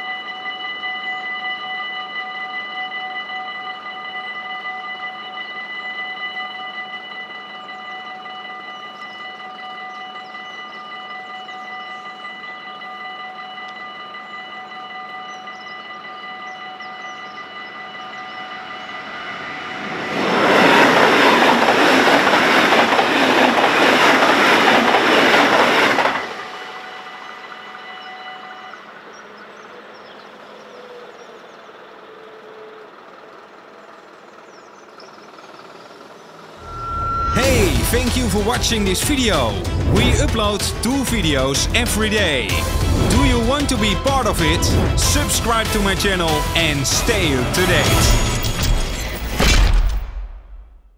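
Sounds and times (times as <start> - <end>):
level-crossing bell ringing: 0.0 - 29.0, 36.5 - 49.3
train passing: 0.0 - 49.1.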